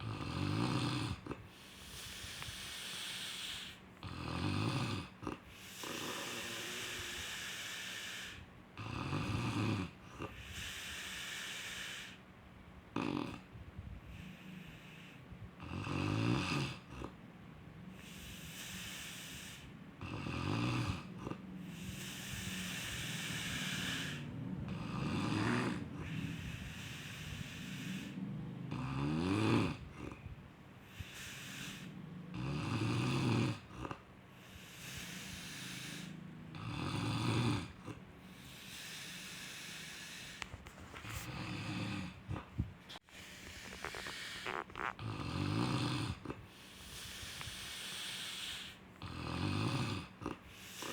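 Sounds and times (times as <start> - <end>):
person snoring: 0.0 - 12.2, 18.0 - 40.4, 41.1 - 50.9.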